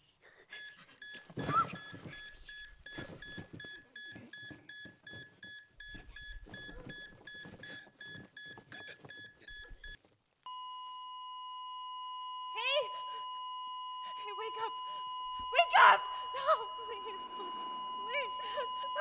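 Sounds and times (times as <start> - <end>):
continuous flatline tone: 0.5 - 19.0
heart monitor beeping: 0.6 - 19.0.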